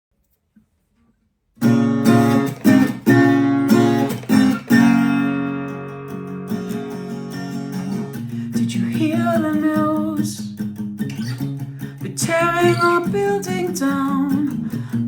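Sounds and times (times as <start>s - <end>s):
acoustic guitar strumming: 1.6s - 15.0s.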